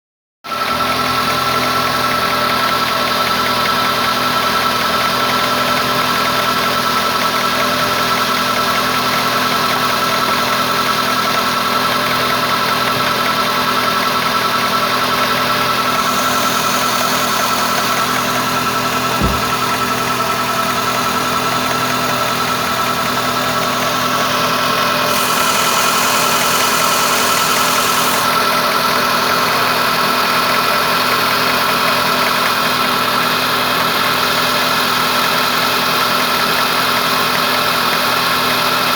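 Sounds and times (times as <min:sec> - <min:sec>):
car engine idling: 0:00.5 - 0:38.9.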